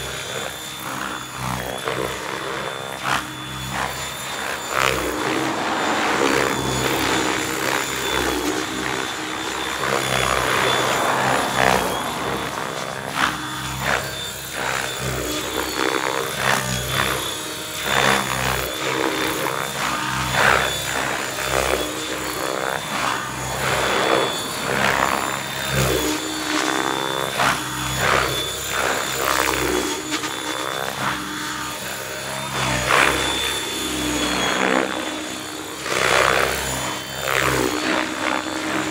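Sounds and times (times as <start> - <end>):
electric motor high whine: 0.0 - 38.9
rotor blade whoosh: 1.2 - 18.0, 20.3 - 38.9.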